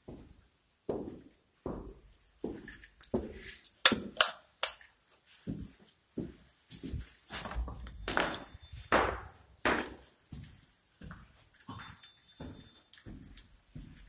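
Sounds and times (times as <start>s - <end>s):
footsteps walking: 0.0s - 14.0s.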